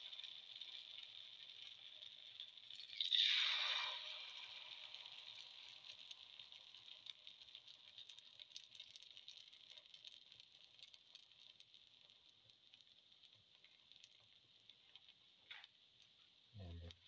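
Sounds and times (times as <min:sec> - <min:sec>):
batter sizzling in oil: 0:00.0 - 0:17.0.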